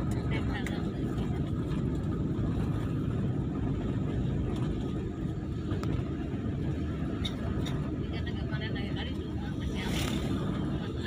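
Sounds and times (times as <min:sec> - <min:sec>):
vehicle rumble and tyres on road: 0:00.0 - 0:11.0.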